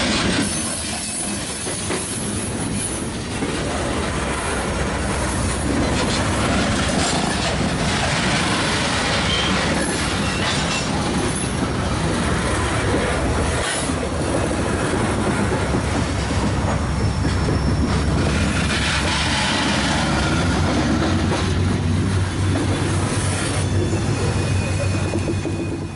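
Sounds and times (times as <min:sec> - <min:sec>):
freight train rolling past: 0:00.0 - 0:25.9
steel wheels squealing on rails: 0:00.0 - 0:25.9.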